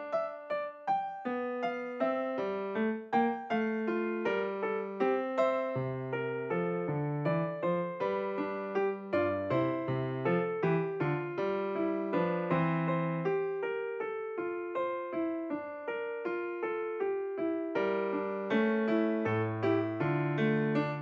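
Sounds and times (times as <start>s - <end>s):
electric piano melody: 0.0s - 21.0s.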